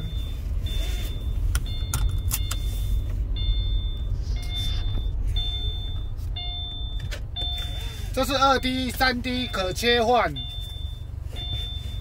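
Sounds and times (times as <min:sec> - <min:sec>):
high electronic beep: 0:00.0 - 0:12.0
road and engine rumble: 0:00.0 - 0:12.0.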